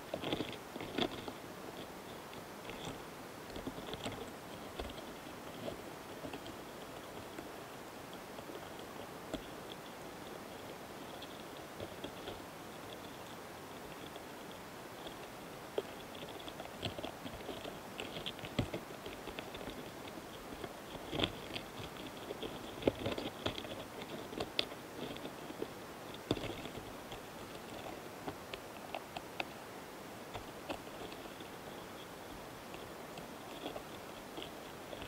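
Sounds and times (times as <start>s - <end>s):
beetles clicking and scratching: 0.0s - 35.0s.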